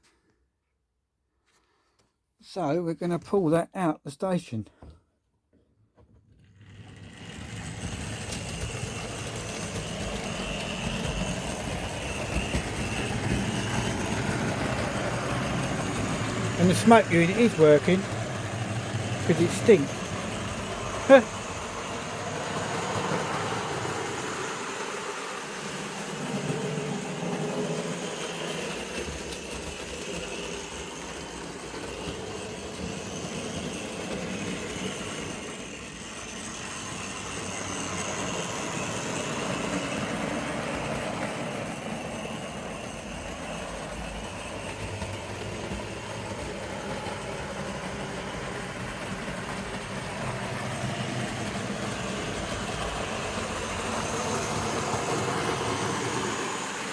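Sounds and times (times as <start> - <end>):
model train whirring and rattling: 6.0 - 56.9.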